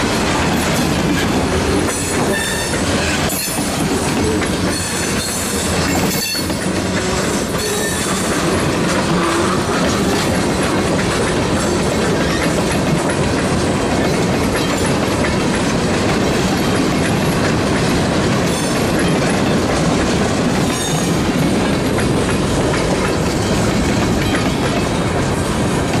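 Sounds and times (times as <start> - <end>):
train wheels rumbling on rails: 0.0 - 26.0
wheels clicking over rail joints: 0.0 - 26.0.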